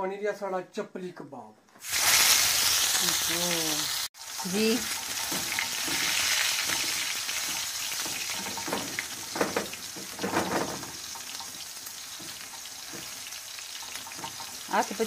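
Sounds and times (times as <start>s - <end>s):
meat sizzling in oil: 1.8s - 15.0s.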